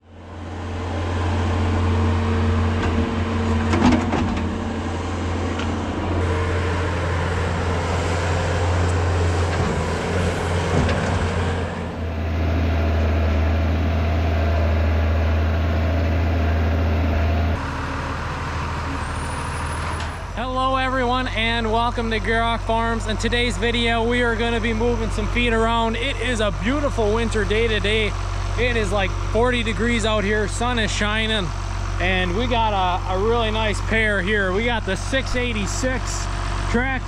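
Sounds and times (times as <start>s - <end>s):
tractor engines running: 0.0s - 37.0s.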